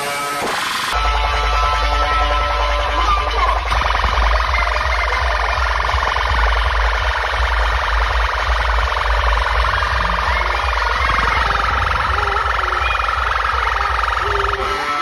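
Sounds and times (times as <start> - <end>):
electronic dance music: 0.0 - 15.0
wailing siren-like synth: 0.0 - 15.0
deep bass: 1.0 - 15.0.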